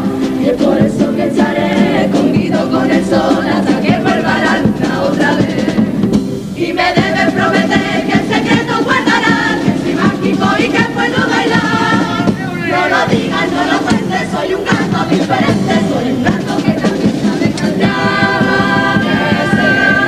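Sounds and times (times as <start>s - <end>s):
bass drum: 0.0s - 20.0s
mixed chorus singing in harmony: 0.0s - 20.0s.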